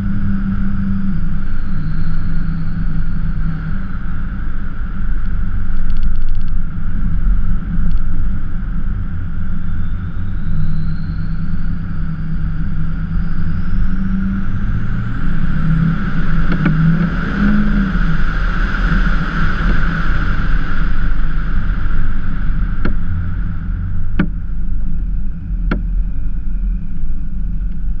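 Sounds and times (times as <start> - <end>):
thin high whine: 0.0 - 28.0
truck engine and tyre rumble: 0.0 - 28.0.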